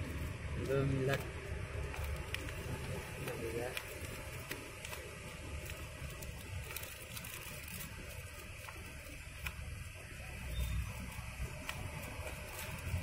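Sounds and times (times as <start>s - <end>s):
paper envelope rustling and crackling: 0.0s - 13.0s
steady low rumble: 0.0s - 13.0s.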